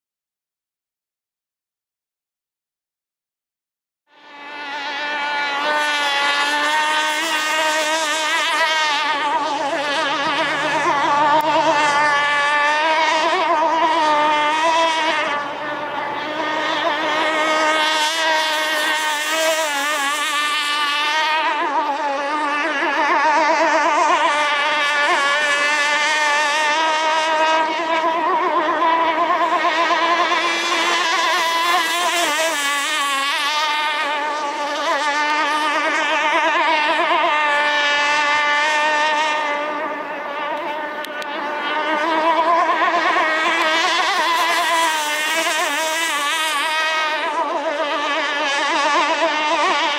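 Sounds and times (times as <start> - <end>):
two-stroke boat engine buzzing: 4.1 - 49.9.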